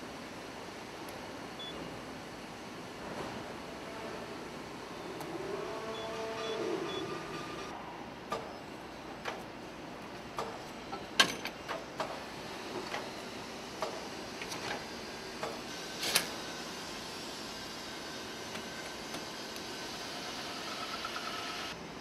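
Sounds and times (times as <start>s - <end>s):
factory machinery hum: 0.0s - 22.0s.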